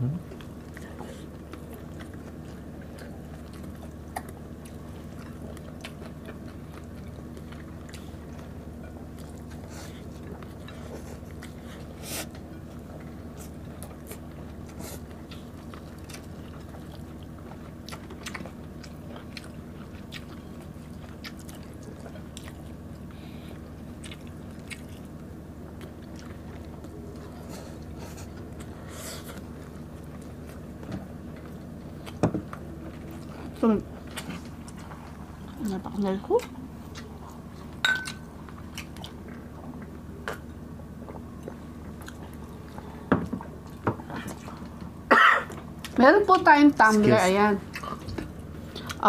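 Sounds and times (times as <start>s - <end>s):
steady low hum: 0.0s - 49.0s
chewing and crunching food: 0.1s - 49.0s.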